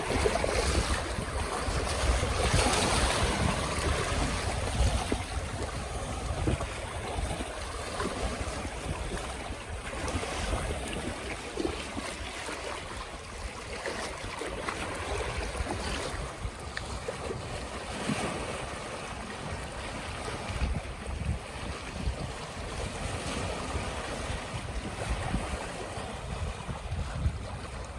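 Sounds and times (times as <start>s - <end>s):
waves washing in: 0.0s - 27.9s
wind rumbling on microphone: 0.0s - 27.9s.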